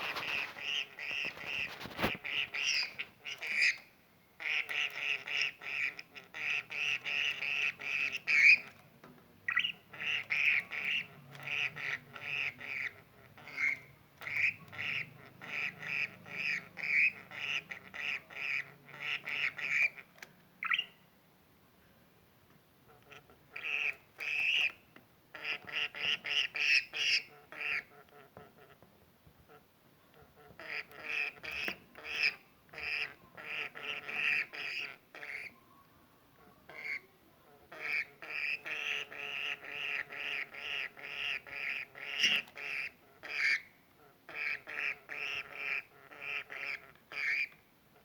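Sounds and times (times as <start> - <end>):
budgie calling: 0.0 - 8.8, 9.4 - 21.0, 22.9 - 28.8, 29.5 - 35.6, 36.4 - 48.0.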